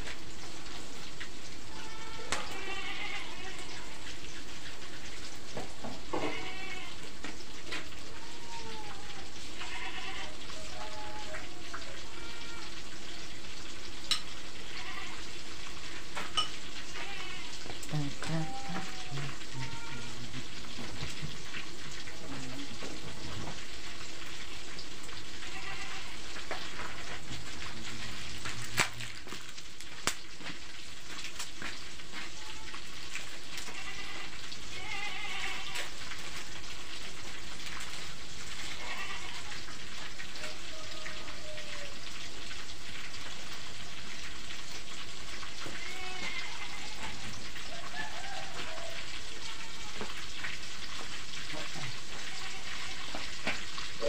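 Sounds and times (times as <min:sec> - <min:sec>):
oil sizzling in a pan: 0:00.0 - 0:54.0.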